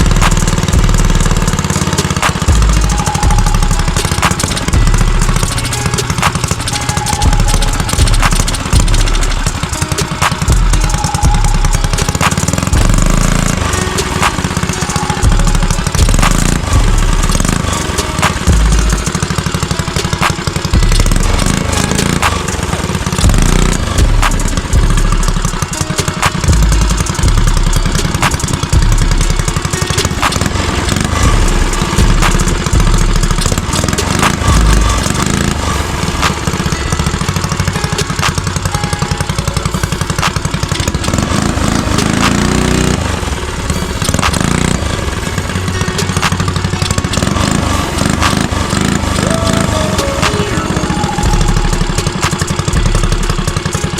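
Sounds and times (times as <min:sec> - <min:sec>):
mini bike engine running: 0:00.0 - 0:53.9.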